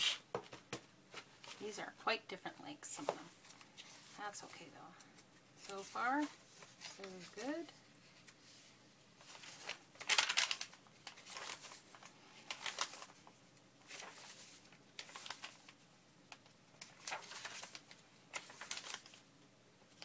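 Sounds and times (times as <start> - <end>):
paper rustling and shuffling: 0.4 - 1.8, 2.9 - 19.3.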